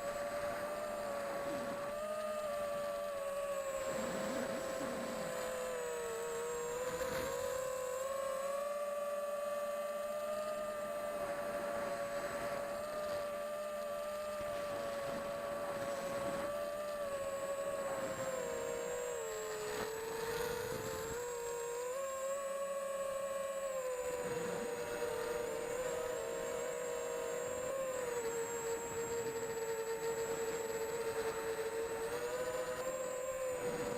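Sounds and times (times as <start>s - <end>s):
quadcopter propellers whining: 0.0s - 33.9s.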